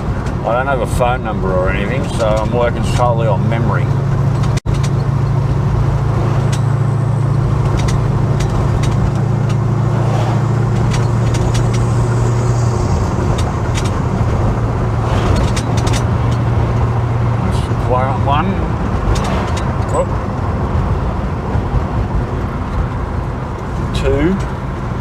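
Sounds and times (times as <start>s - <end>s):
car engine drone from cabin: 0.0s - 25.0s
road noise: 0.0s - 25.0s.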